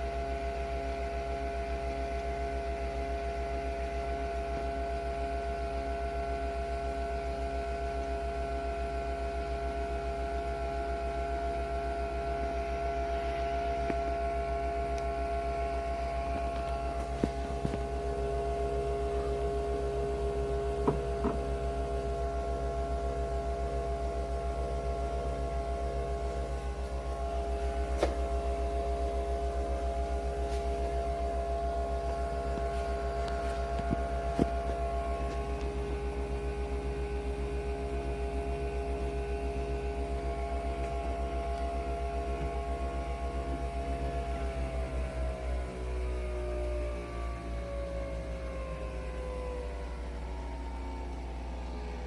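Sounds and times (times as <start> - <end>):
coffee machine humming and throbbing: 0.0 - 52.0.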